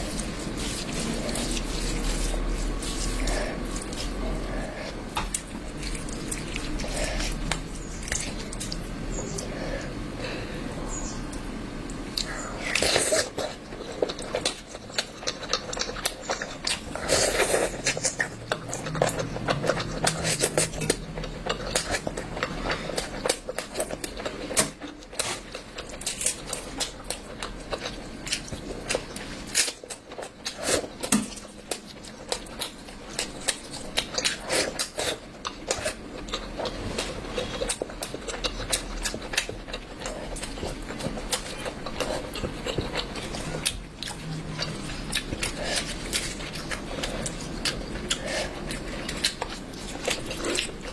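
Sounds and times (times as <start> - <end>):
person chewing food wetly: 0.0 - 50.9.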